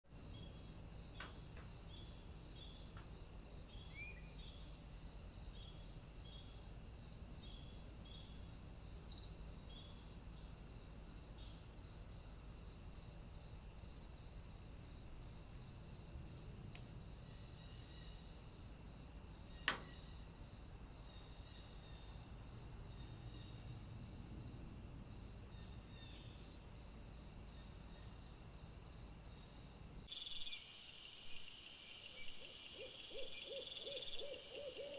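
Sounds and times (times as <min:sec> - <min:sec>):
crickets chirring: 0:00.1 - 0:34.9.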